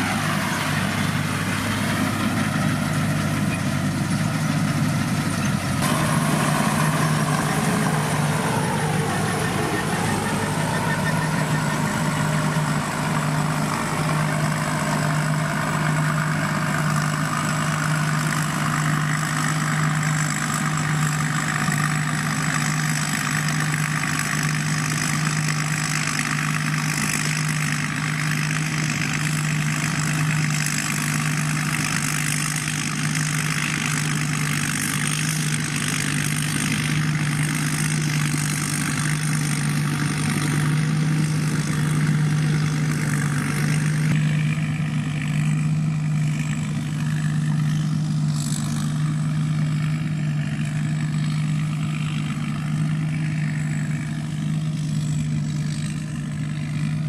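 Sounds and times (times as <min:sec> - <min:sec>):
combine harvester diesel engine running: 0:00.0 - 0:57.0.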